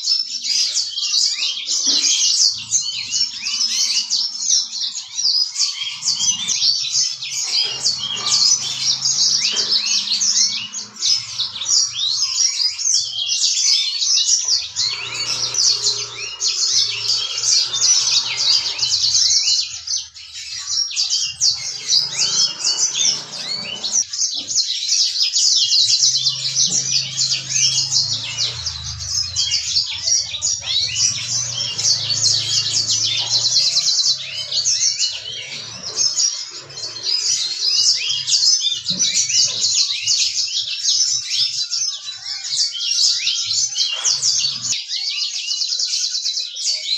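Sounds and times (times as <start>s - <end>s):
canary singing chirps and trills: 0.0s - 46.9s.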